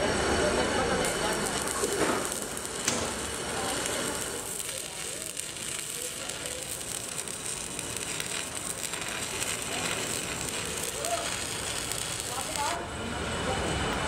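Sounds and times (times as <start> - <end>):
welding arc crackling and sizzling: 0.0 - 14.0.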